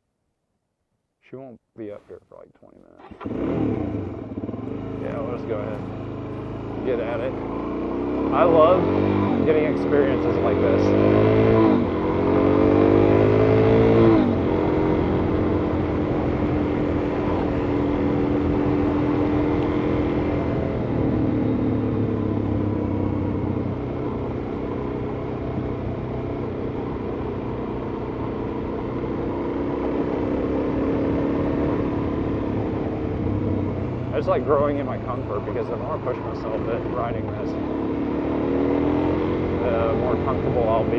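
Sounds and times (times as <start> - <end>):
motorcycle engine revving: 3.0 - 40.9.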